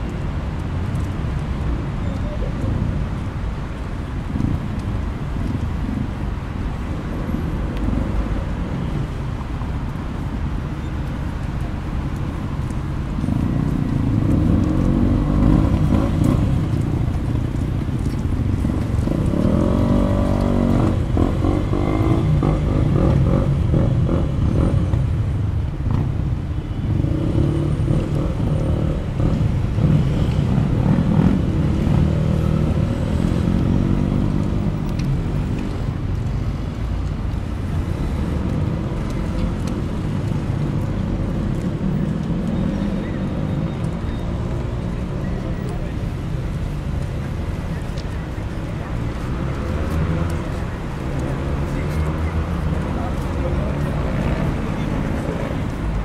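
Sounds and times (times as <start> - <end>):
city street traffic rumble: 0.0 - 56.0.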